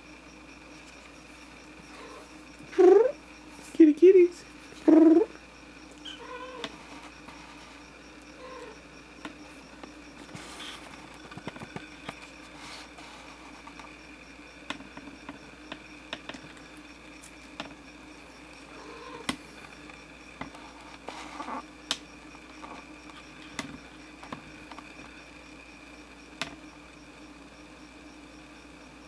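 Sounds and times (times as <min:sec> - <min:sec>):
faint electrical hum: 0:00.0 - 0:29.0.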